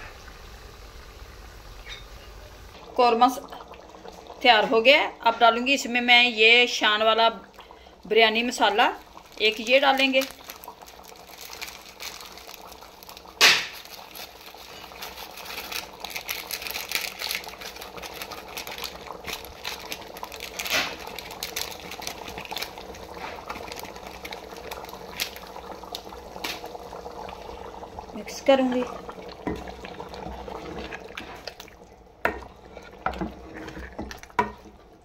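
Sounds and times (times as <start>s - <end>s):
food bubbling and crackling in pot: 0.0s - 35.0s.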